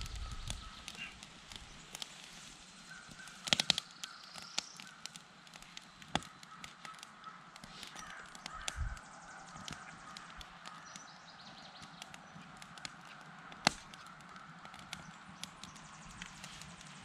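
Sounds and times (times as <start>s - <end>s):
faint bird calls: 0.0s - 17.0s
wood fire crackling and popping: 0.0s - 17.0s.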